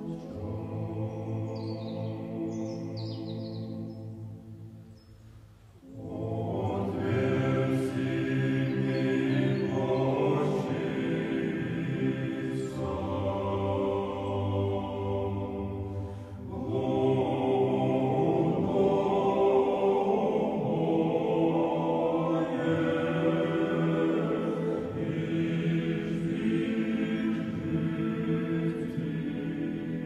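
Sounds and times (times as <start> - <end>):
choir chanting long notes: 0.0 - 4.8, 5.8 - 30.0.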